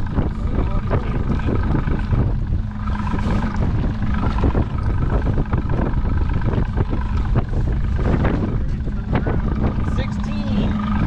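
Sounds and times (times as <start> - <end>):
boat motor humming: 0.0 - 11.0
wind buffeting microphone: 0.0 - 11.0.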